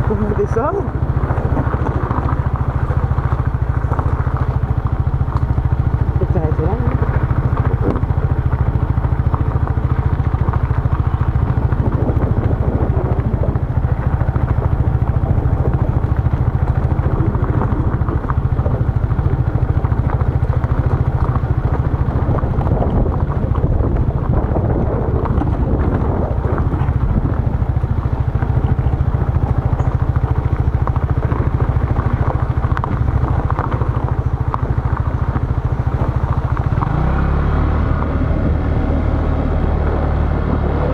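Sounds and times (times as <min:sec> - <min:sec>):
motorbike engine rumbling: 0:00.0 - 0:40.9.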